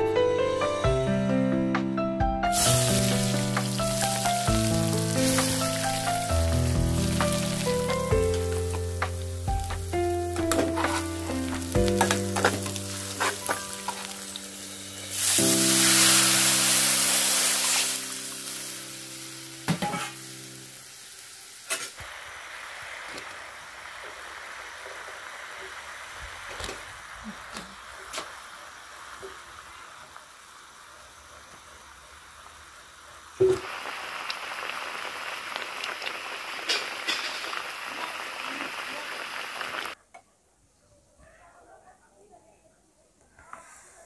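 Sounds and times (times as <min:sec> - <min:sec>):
fritters sizzling in oil: 0:02.5 - 0:40.0.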